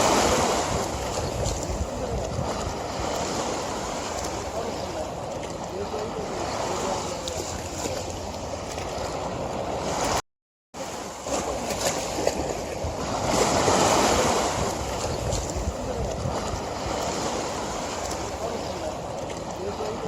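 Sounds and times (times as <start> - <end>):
river water rushing: 0.0 - 10.2, 10.8 - 20.0.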